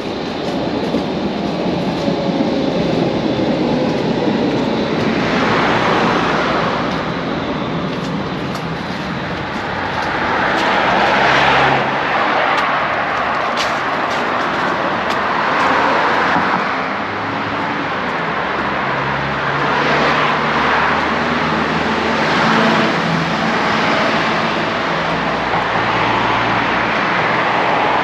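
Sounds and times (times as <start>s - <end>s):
tram going by: 0.0s - 28.0s
motor vehicles passing: 3.9s - 28.0s.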